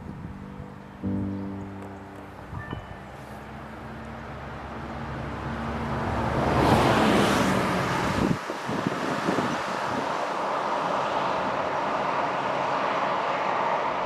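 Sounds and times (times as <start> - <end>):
car passing by: 2.7 - 14.0.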